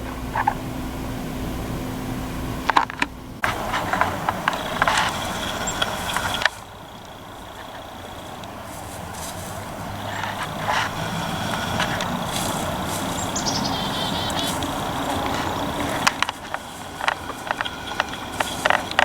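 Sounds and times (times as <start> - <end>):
vehicle passing: 3.4 - 19.0.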